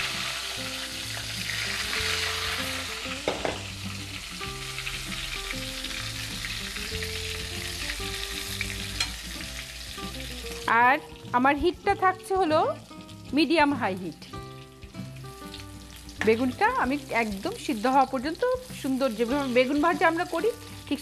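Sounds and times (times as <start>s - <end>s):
eggplant sizzling in oil: 0.0s - 21.0s.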